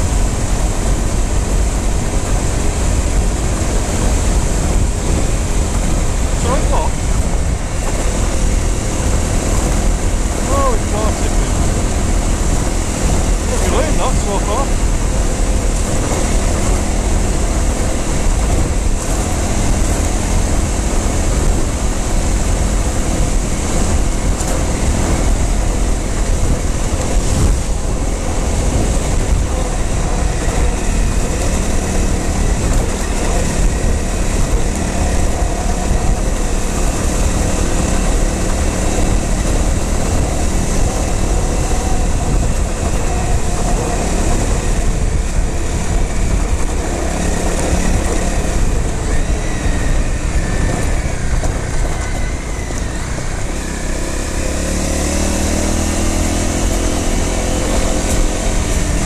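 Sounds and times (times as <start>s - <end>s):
motorcycle engine running: 0.0s - 59.0s
wind and ground rumble: 0.0s - 59.0s.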